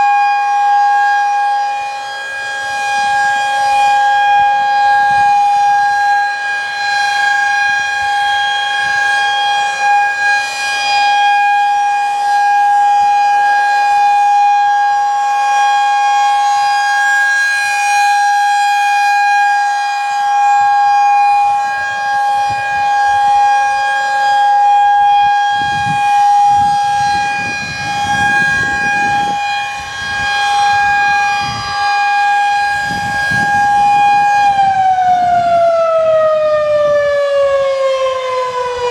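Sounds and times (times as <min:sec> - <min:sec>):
high-pitched warning siren: 0:00.0 - 0:38.9.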